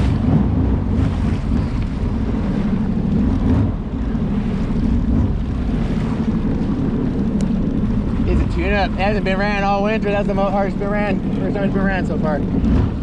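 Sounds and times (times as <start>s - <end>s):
personal watercraft engine: 0.0s - 13.0s
water noise: 0.0s - 13.0s
wind noise: 0.0s - 13.0s.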